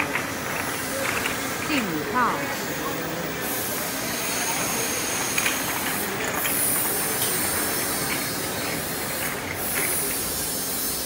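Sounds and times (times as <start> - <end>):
bottle washing machine running: 0.0 - 11.0.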